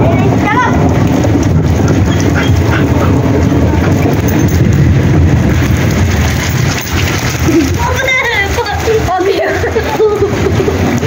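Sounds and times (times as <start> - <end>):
rain on tiled roof: 0.0 - 11.0
wind buffeting microphone: 0.0 - 11.0.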